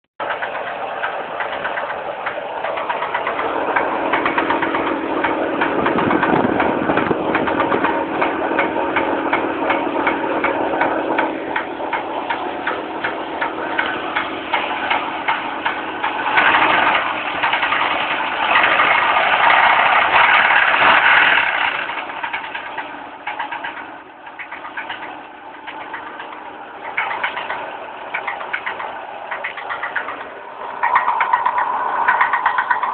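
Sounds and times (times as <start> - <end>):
car engine ticking rattle: 0.2 - 32.9.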